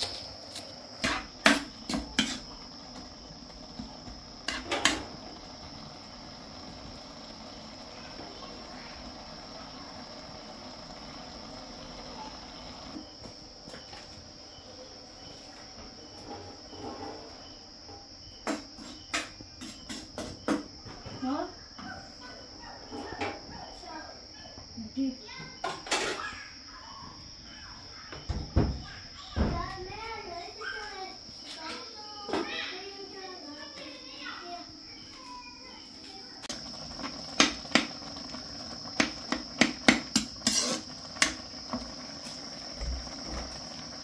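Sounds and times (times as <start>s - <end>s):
crickets chirring: 0.0s - 44.0s.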